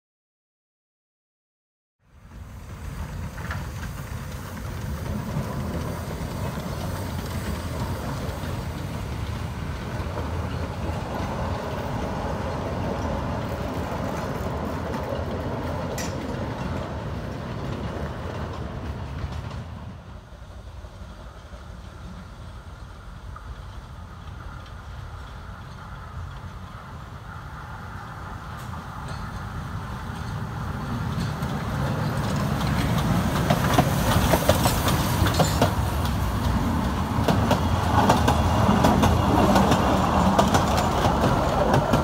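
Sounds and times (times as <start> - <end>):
steam train running on track: 2.1 - 42.0.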